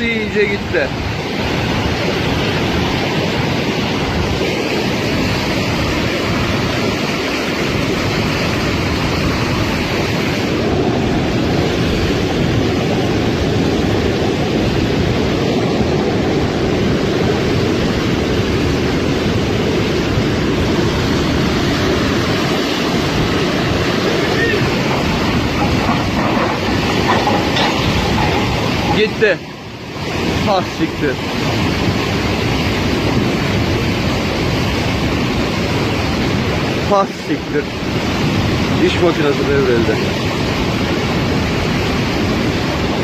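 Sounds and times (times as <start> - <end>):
flash flood torrent rushing: 0.0 - 43.0.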